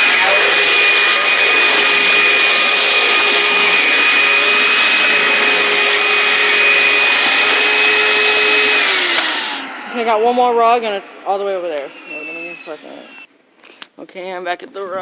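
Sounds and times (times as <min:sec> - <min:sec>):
upright vacuum running: 0:00.0 - 0:13.3.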